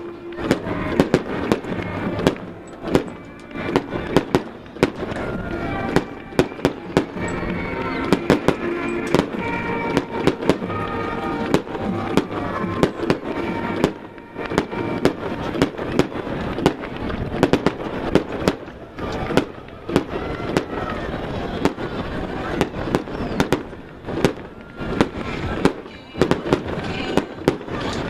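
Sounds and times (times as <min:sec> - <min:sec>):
fireworks cracking and popping: 0:00.0 - 0:28.0
music: 0:00.0 - 0:28.0.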